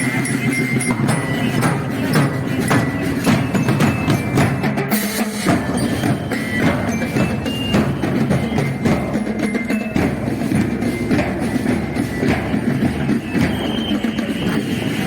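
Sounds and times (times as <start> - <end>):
glockenspiel notes: 0.0 - 15.0
snare and bass drums: 0.0 - 15.0.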